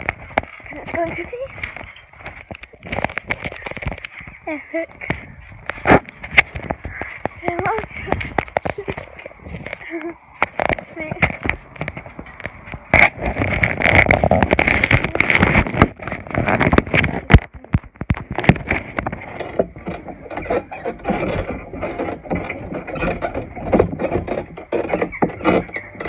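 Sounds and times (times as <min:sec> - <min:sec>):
microphone handling rustling: 0:00.0 - 0:26.0
wind buffeting microphone: 0:00.0 - 0:26.0.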